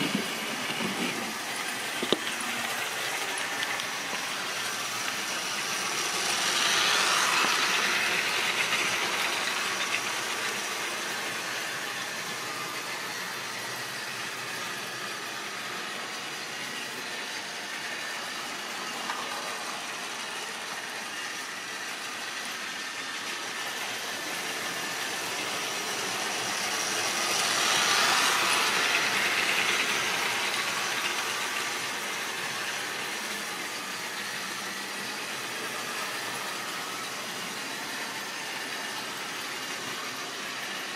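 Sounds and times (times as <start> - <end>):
electric motor whir: 0.0 - 40.9.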